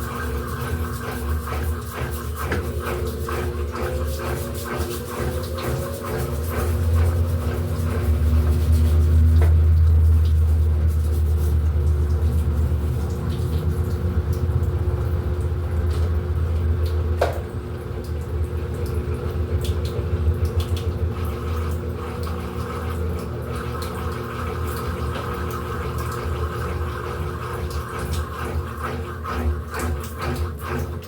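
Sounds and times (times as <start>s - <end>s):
washing machine motor hum: 0.0s - 31.0s
water moving in drum: 0.0s - 31.0s.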